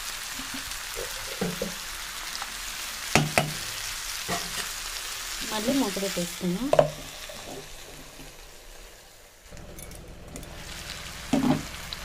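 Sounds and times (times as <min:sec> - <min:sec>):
curry sizzling in oil: 0:00.0 - 0:12.0.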